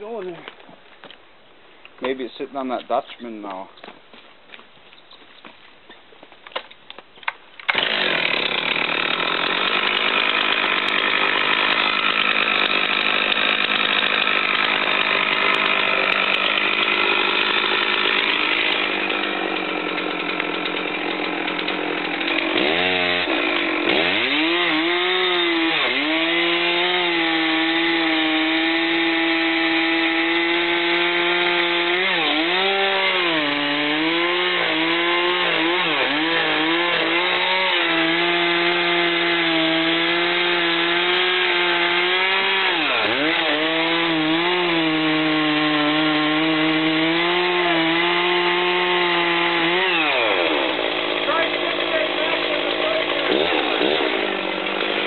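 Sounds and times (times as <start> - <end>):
chainsaw cutting into tree: 7.6 - 55.0.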